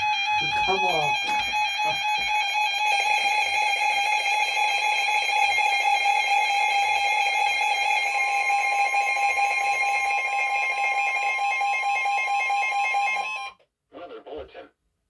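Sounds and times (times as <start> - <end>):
electronic alarm tones: 0.0 - 13.6.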